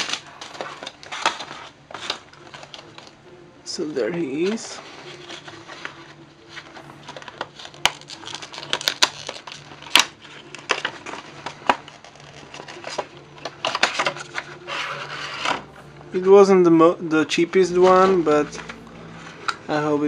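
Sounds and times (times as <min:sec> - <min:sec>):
faint low hum: 0:00.0 - 0:20.0
plastic and cardboard crackling: 0:00.0 - 0:20.0.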